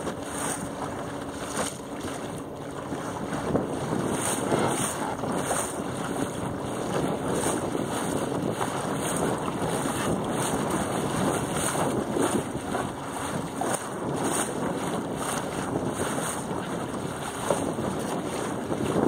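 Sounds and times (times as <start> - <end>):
choppy water washing around boat: 0.0 - 19.0
wind buffeting microphone: 0.0 - 19.0.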